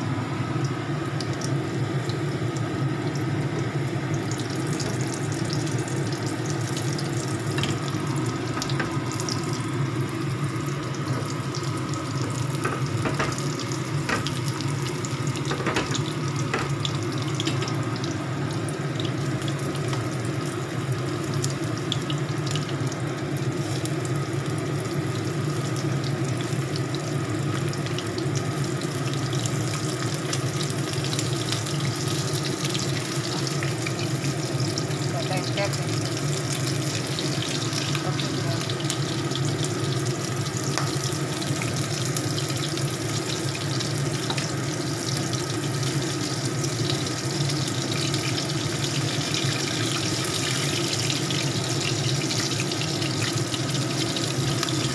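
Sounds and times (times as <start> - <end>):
food deep-frying in oil: 0.0 - 54.9.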